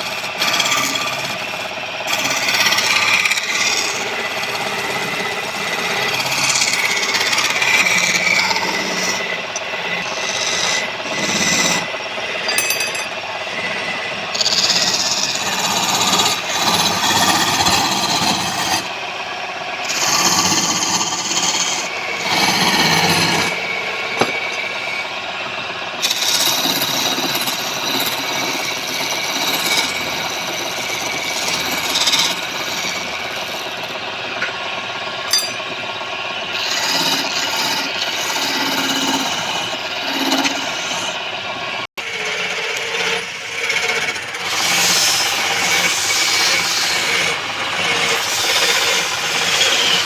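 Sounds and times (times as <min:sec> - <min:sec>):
tool scraping spinning wood: 0:00.0 - 0:50.0.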